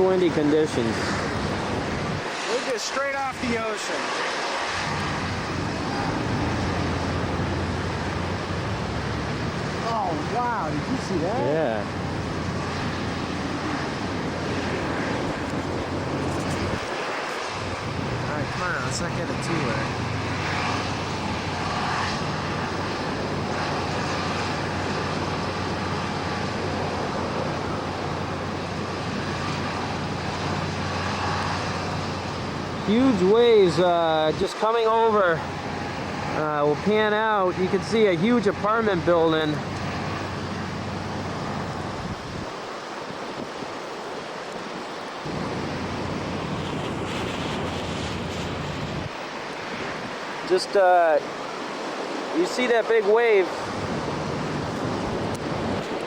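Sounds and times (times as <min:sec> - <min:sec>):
gale wind on microphone: 0:00.0 - 0:56.0
heavy storm surf: 0:00.0 - 0:56.0.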